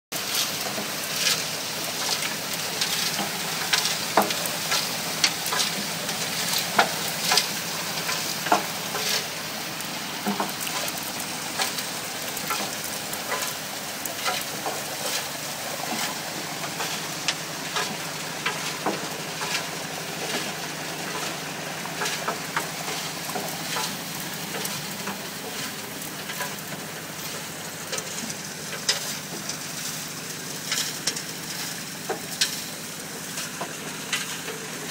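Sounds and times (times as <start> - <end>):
water and gravel rushing: 0.1 - 34.9
gravel clicks and splashes: 0.2 - 34.9.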